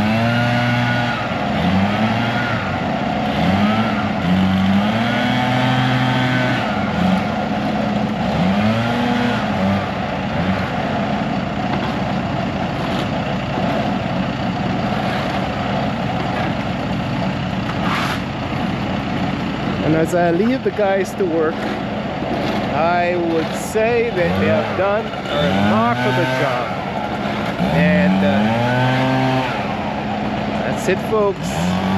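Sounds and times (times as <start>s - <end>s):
engine revving: 0.0s - 31.9s.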